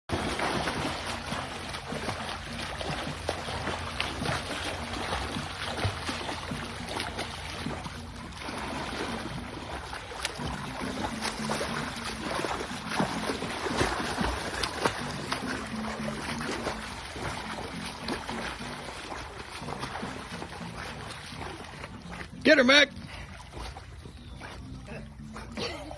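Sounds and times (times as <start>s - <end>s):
dog paddling splashing water: 0.1s - 25.8s.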